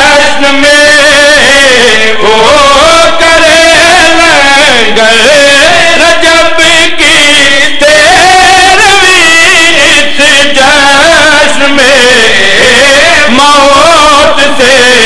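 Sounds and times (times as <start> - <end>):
man singing a devotional chant: 0.0 - 15.0.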